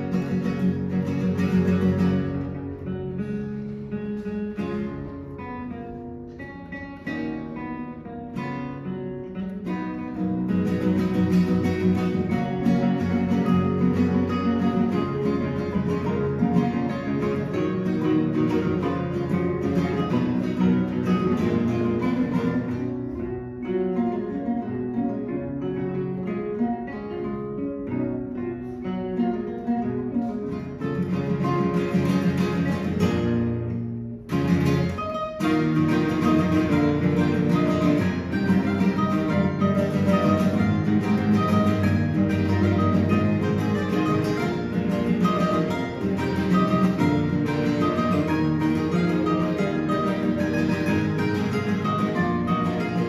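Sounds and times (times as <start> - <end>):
classical guitars playing: 0.0 - 53.0.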